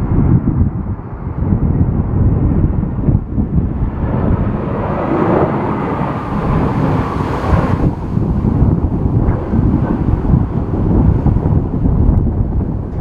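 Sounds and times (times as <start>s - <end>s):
jet engines passing: 0.0s - 13.0s
wind buffeting microphone: 0.0s - 13.0s.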